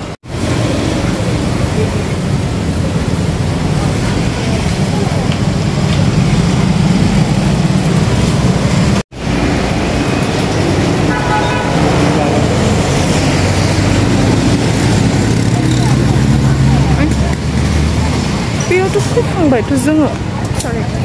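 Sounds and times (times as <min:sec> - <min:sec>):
underground train rumbling: 0:00.0 - 0:21.0.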